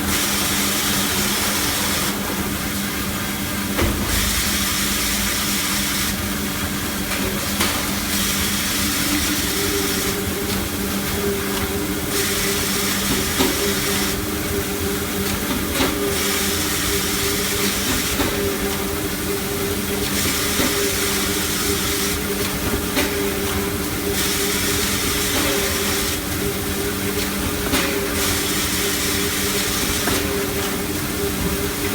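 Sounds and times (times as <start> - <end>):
machine hum: 0.0 - 31.9.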